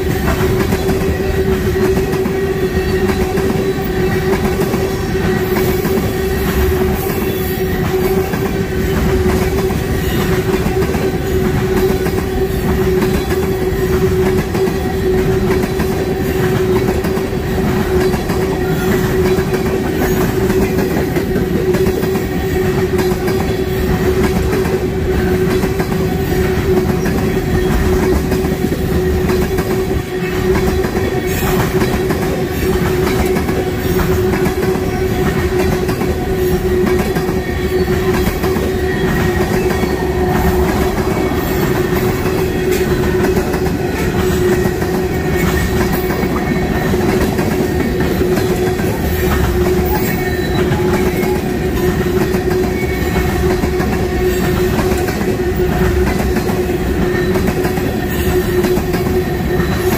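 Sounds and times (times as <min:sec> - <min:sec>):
freight train cars rumbling past: 0:00.0 - 0:59.9.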